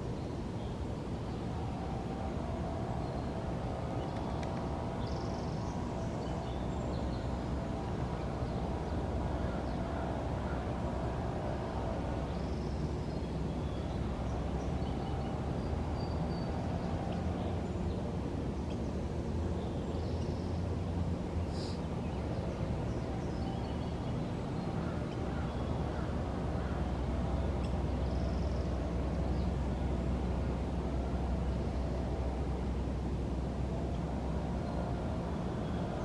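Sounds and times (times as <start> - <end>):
low rumble of distant traffic: 0.0 - 36.0.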